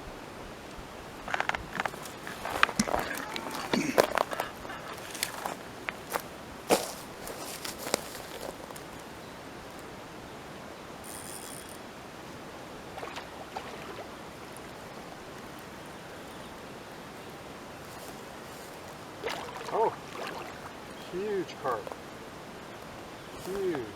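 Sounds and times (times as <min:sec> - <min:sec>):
outdoor background hiss: 0:00.0 - 0:23.9.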